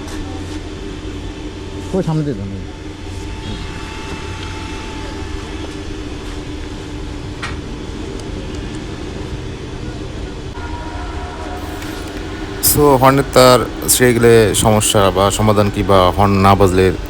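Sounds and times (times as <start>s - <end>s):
engine and traffic rumble: 0.0s - 10.6s, 11.6s - 17.0s.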